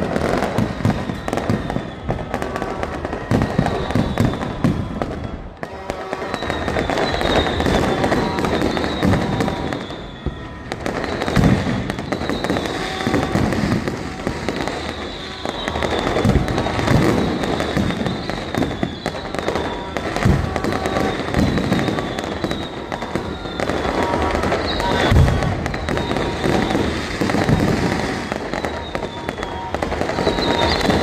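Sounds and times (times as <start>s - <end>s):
deep firework booms: 0.0s - 31.0s
fireworks crackling: 0.0s - 31.0s.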